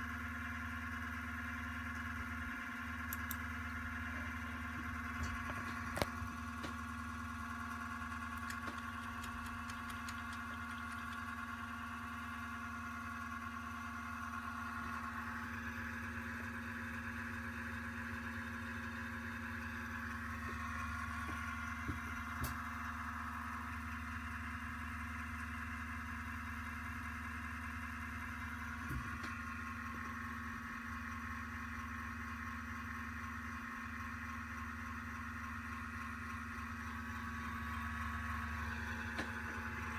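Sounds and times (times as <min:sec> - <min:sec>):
computer cooling fans humming: 0:00.1 - 0:31.2, 0:35.6 - 0:39.9.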